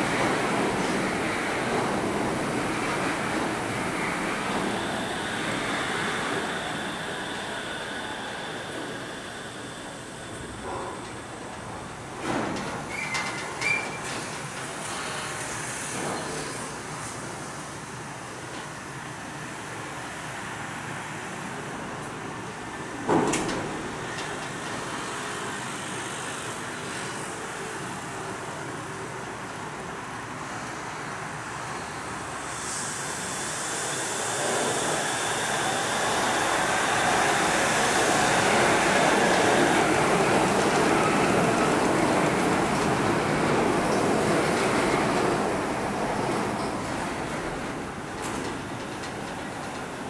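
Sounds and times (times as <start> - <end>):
monorail train running: 0.0 - 50.0.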